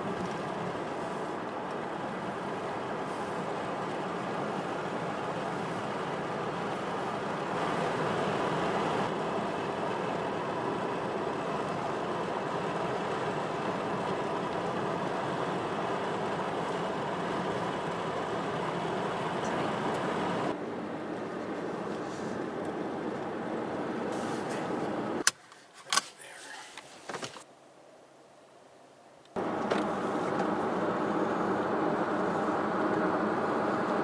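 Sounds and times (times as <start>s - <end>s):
car road and wind noise: 0.0s - 25.3s, 29.2s - 34.0s.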